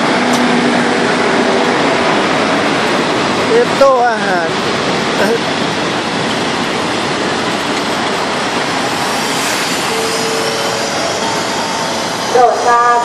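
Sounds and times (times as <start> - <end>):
train carriages rushing and rumbling: 0.0 - 13.0.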